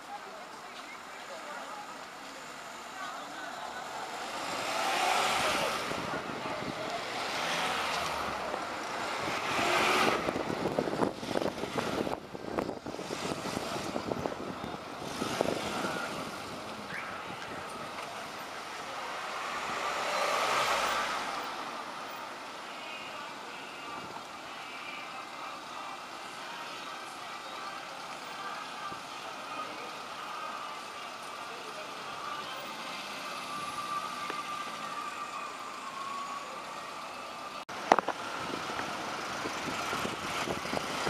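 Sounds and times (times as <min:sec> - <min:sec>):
bus road noise: 0:00.0 - 0:41.0
vehicles passing: 0:00.0 - 0:41.0.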